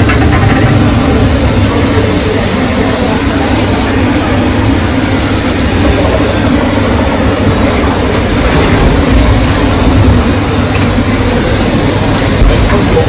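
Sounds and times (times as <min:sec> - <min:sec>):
dishwasher pump hum: 0:00.0 - 0:13.0
water spraying on metal walls: 0:00.0 - 0:13.0.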